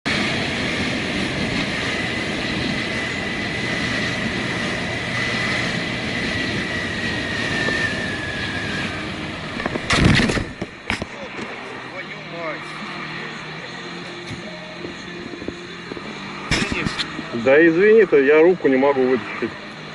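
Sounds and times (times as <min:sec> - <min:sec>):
road vehicle running noise: 0:00.0 - 0:19.9.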